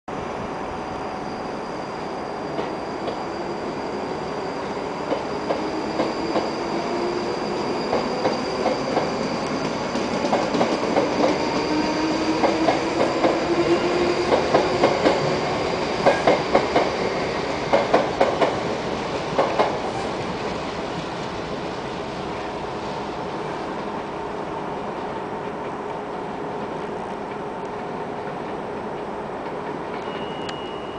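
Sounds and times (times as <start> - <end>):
train rumble: 0.1 - 30.9.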